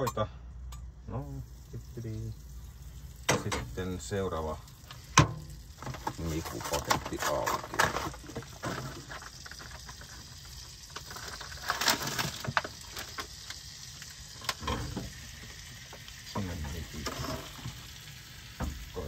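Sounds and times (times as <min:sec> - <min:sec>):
food sizzling in butter: 0:01.3 - 0:19.0.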